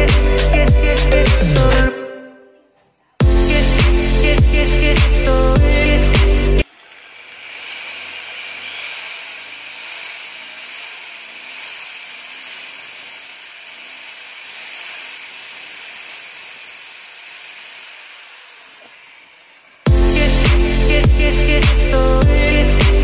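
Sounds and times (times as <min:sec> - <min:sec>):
electric drill boring plastic: 0:03.4 - 0:23.0.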